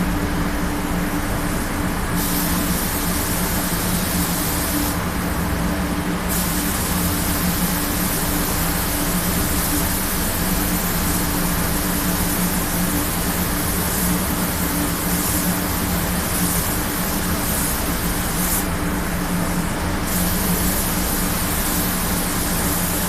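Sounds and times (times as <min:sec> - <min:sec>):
mechanical hum: 0:00.0 - 0:23.0
spray gun hissing: 0:01.3 - 0:05.1, 0:06.1 - 0:23.0.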